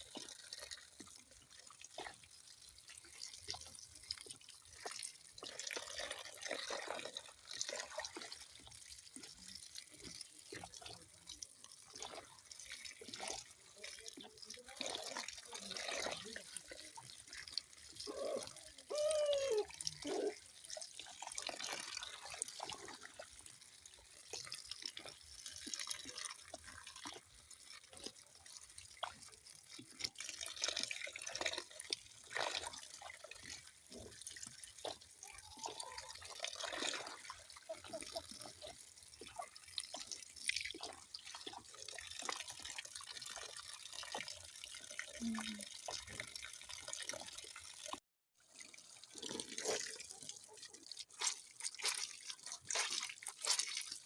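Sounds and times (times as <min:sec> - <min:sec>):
light water trickle: 0:00.0 - 0:54.0
water dripping and splashing: 0:00.0 - 0:54.0.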